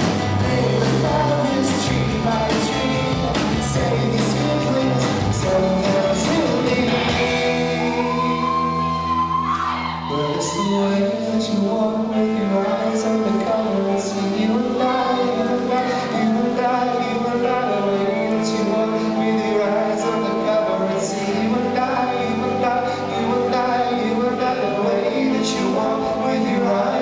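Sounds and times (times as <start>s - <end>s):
live band music: 0.0s - 27.0s
person singing: 0.0s - 27.0s.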